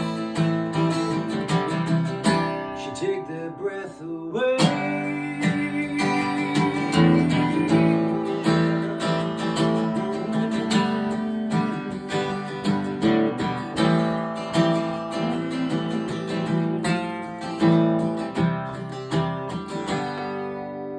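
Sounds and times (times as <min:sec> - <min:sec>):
acoustic guitar strumming: 0:00.0 - 0:20.9.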